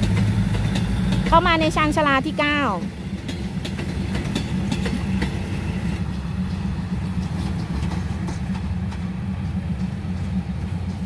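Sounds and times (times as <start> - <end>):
train wheels clicking over rail joints: 0.0 - 11.0.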